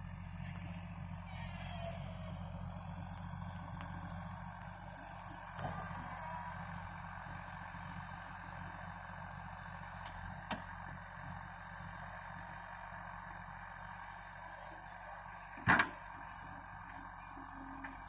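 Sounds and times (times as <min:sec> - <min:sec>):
distant diesel engine running: 0:00.0 - 0:18.0.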